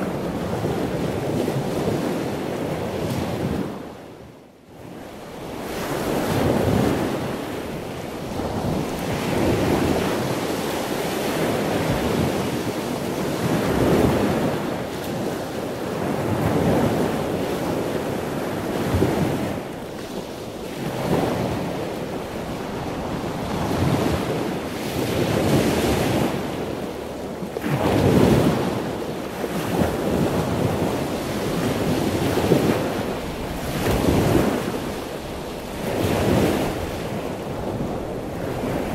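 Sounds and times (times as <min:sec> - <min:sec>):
ocean surf on sandy beach: 0:00.0 - 0:38.9
wind buffeting microphone: 0:00.0 - 0:38.9.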